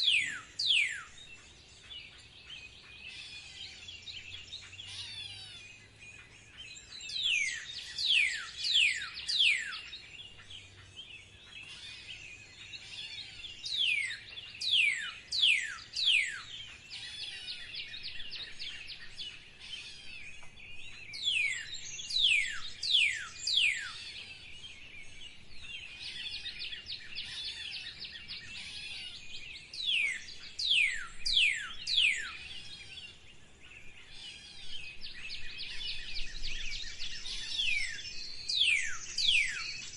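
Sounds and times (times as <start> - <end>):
chorus of small bird chirps: 0.0 - 39.9.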